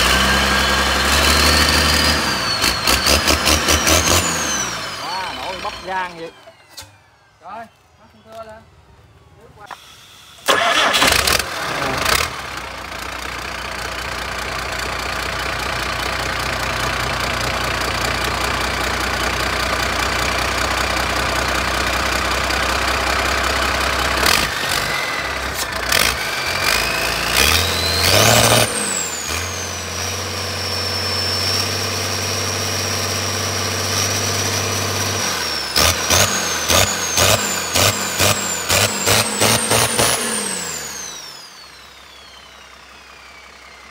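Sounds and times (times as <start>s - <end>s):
diesel engine revving: 0.0s - 6.9s, 10.4s - 43.9s
high engine whine: 0.0s - 43.9s.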